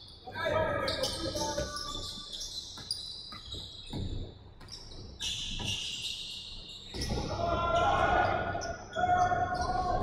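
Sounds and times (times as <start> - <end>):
sneaker squeaks: 0.6 - 10.0.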